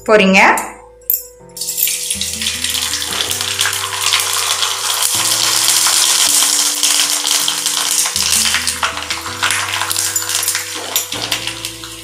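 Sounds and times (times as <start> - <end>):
background music of held notes: 0.0 - 12.0
food sizzling in hot oil: 1.6 - 12.0.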